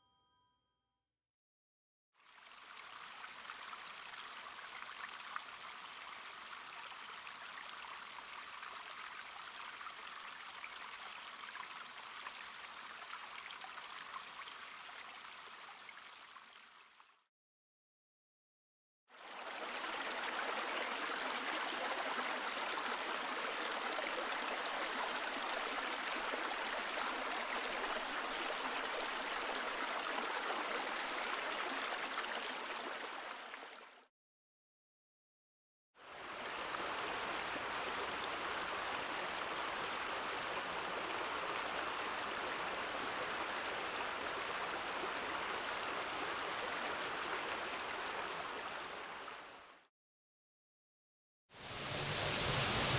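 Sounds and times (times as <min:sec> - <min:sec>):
stream water babbling: 0:02.2 - 0:17.1, 0:19.1 - 0:34.0, 0:36.0 - 0:49.8, 0:51.6 - 0:52.9.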